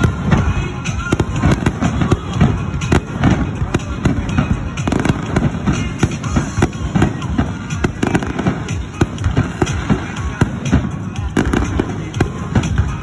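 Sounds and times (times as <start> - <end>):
fireworks sharp bangs: 0.0 - 13.0
low rumble of explosions: 0.0 - 13.0.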